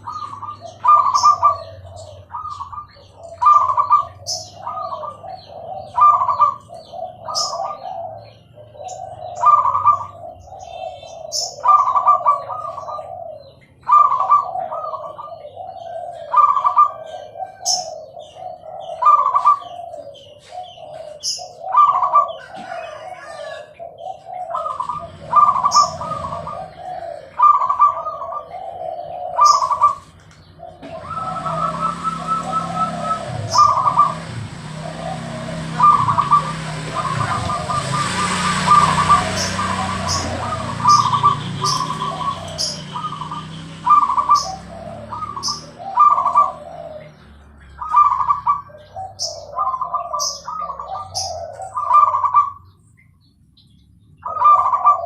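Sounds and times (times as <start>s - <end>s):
dove cooing: 0.0s - 52.8s, 54.2s - 55.0s.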